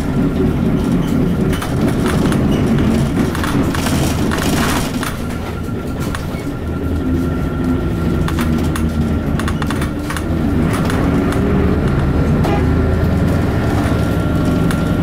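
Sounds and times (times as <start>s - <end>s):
bus diesel engine running: 0.0s - 15.0s
clicks and rattles: 0.3s - 7.3s, 8.2s - 15.0s.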